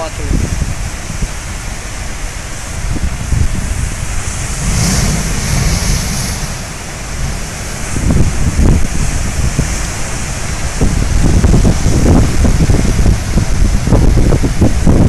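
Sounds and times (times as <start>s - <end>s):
surf washing over rocks: 0.0s - 15.0s
wind buffeting microphone: 0.0s - 15.0s
blowhole spray rushing: 2.3s - 15.0s.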